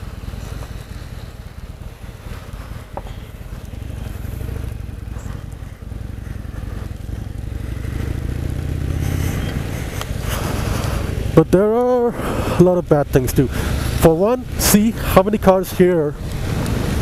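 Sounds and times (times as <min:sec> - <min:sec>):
motorcycle engine running: 0:00.0 - 0:17.0
wet road noise: 0:00.0 - 0:17.0
wind hiss: 0:00.0 - 0:17.0.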